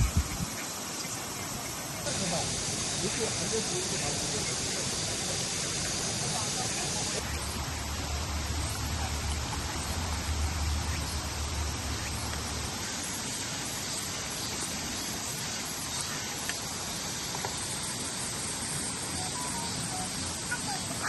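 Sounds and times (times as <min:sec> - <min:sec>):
stream water rushing: 0:00.6 - 0:21.0.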